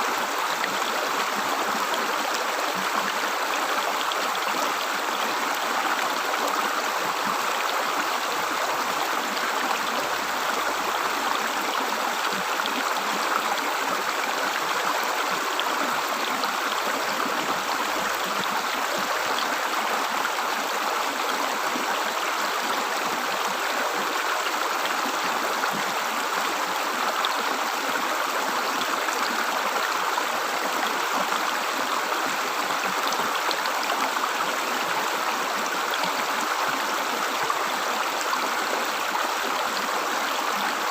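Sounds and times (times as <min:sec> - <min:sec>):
river water gurgling: 0:00.0 - 0:40.9.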